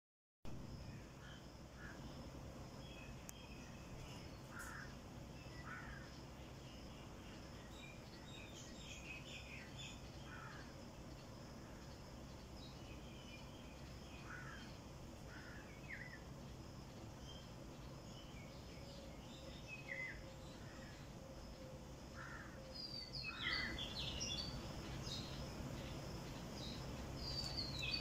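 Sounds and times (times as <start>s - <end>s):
birds chirping: 0.8s - 28.0s.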